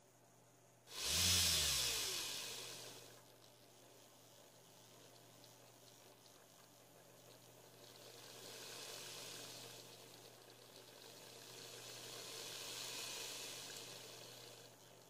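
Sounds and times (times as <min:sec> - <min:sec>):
rotary tool whirring hiss: 0:00.9 - 0:15.0.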